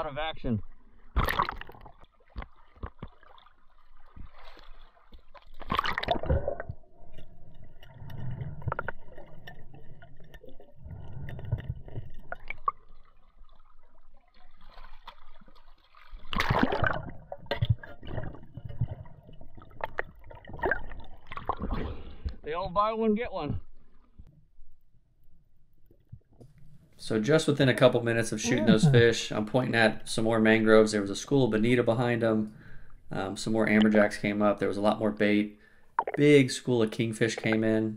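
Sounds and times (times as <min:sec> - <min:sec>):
water sloshing and gurgling: 0:00.0 - 0:27.0, 0:27.7 - 0:37.9.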